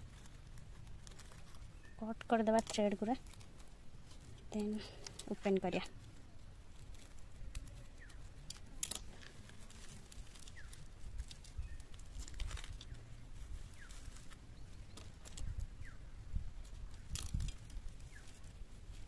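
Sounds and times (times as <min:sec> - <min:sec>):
dried leaves crinkling and tearing: 0:00.0 - 0:19.0.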